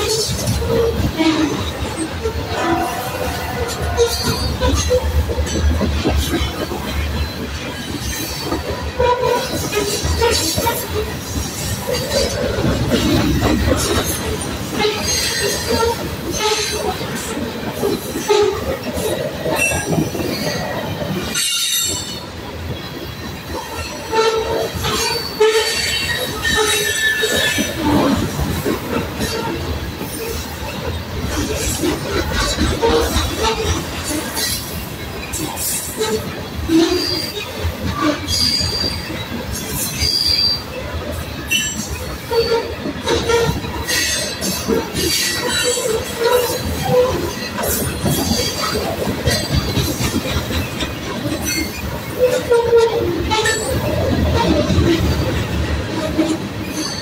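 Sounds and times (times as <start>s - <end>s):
steel wheels squealing: 0.0s - 17.2s, 23.7s - 57.0s
freight train rumbling past: 0.0s - 57.0s.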